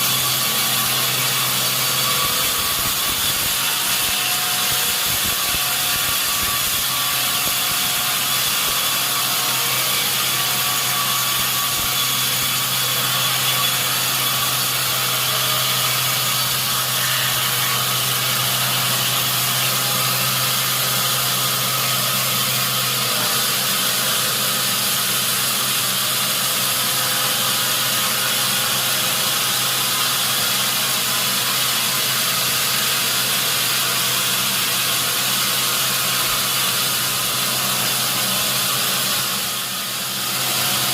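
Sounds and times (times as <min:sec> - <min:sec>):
saw cutting through log: 0:00.0 - 0:40.9.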